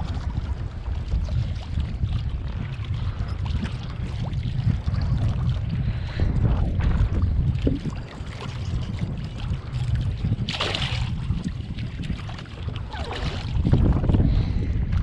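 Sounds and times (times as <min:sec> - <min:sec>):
water lapping against kayak: 0:00.0 - 0:15.0
wind buffeting microphone: 0:00.0 - 0:15.0.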